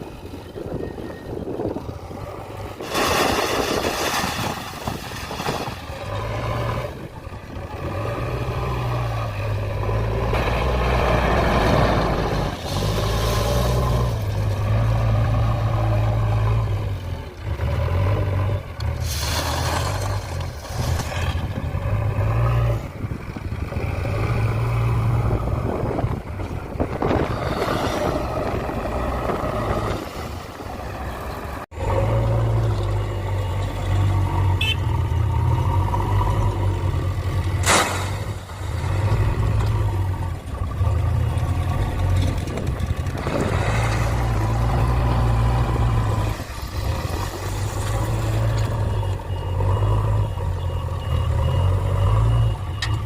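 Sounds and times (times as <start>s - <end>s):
diesel engine under load: 0.0s - 53.0s.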